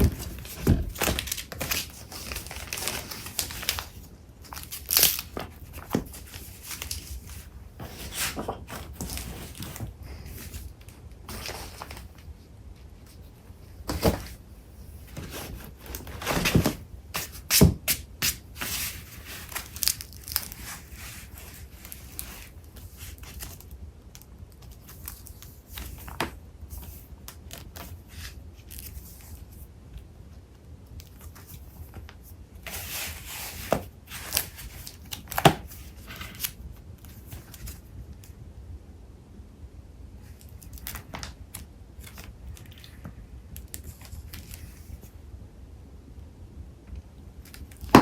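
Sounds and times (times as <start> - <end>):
paper rustling and crinkling: 0.0 - 29.6, 31.1 - 37.9, 40.2 - 45.1.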